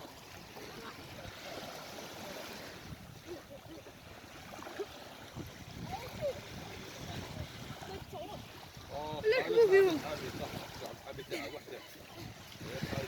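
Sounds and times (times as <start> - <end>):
water lapping around kayak: 0.0 - 13.0.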